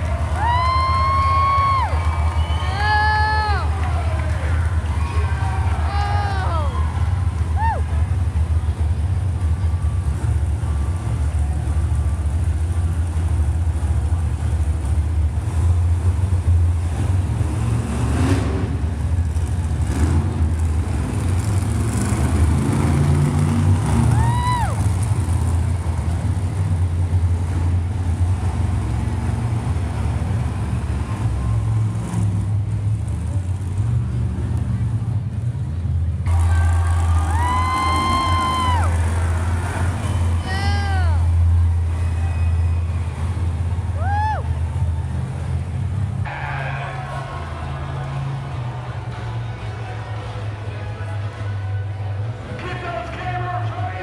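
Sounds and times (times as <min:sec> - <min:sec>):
monster truck engine running: 0:00.0 - 0:54.0.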